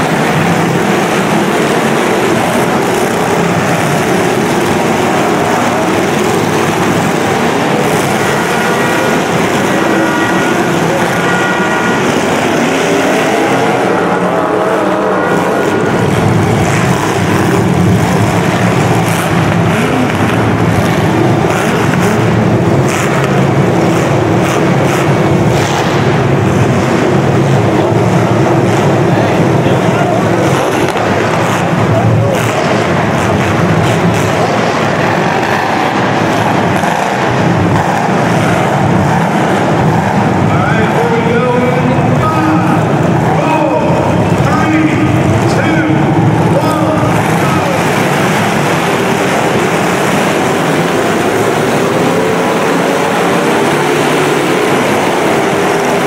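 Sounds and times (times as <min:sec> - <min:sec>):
car engines revving: 0:00.0 - 0:56.0
cars crashing: 0:00.0 - 0:56.0
heavy engine drone: 0:00.0 - 0:56.0.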